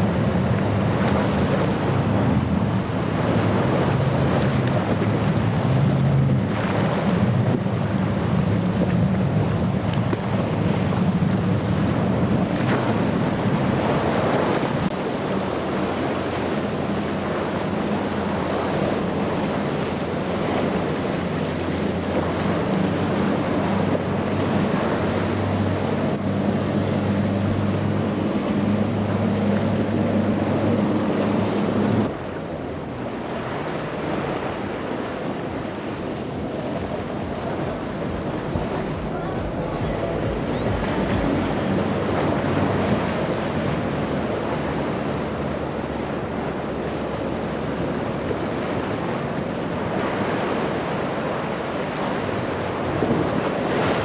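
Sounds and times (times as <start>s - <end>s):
boat engine drone: 0.0s - 54.0s
hull spray and waves: 0.0s - 54.0s
wind on microphone: 0.0s - 54.0s.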